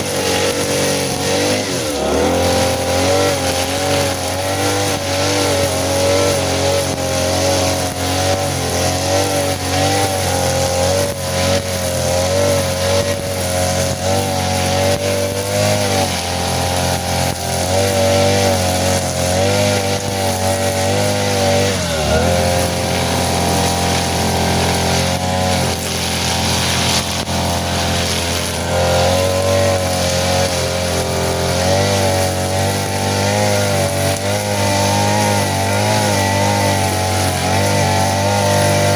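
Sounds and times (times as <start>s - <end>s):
grass cutter petrol engine: 0.0s - 38.9s.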